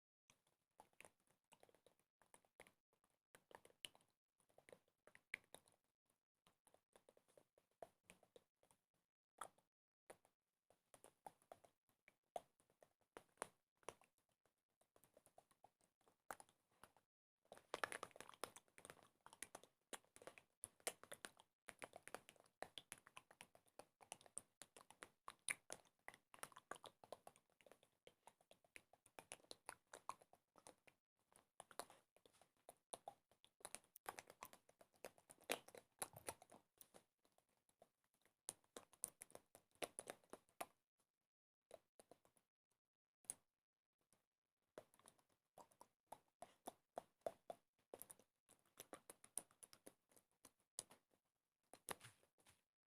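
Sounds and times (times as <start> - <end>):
rapid small clicks and taps: 0.3 - 40.9, 41.7 - 42.5, 44.8 - 52.7.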